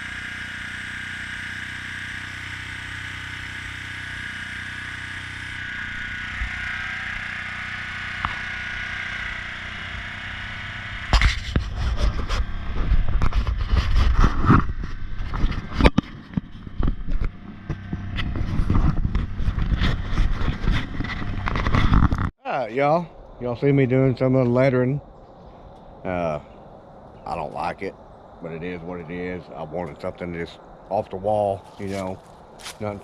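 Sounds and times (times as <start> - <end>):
low rumble: 5.4 - 33.0.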